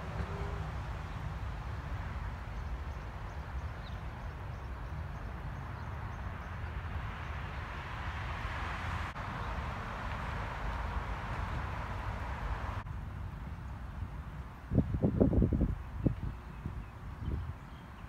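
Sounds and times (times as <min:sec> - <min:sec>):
distant traffic hiss: 0:00.0 - 0:14.8
wind rumbling on microphone: 0:00.0 - 0:18.0.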